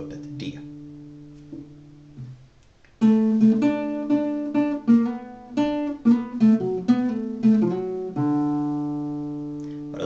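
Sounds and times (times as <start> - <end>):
classical guitar melody: 0.0 - 10.0.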